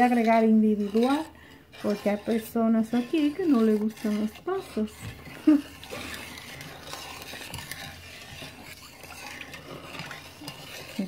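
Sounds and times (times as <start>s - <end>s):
wooden spoon stirring in metal pot: 0.0s - 11.0s.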